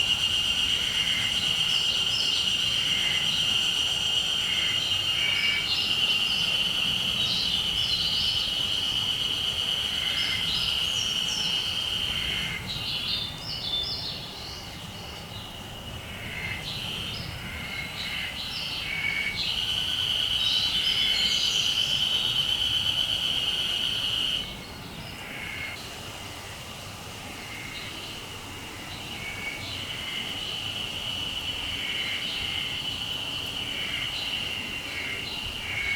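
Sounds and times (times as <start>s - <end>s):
cicada droning: 0.0s - 35.9s.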